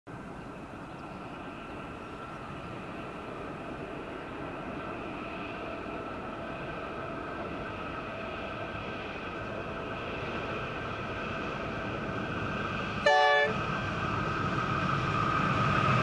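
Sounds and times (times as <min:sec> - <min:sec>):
locomotive low rumble: 0:00.1 - 0:16.0.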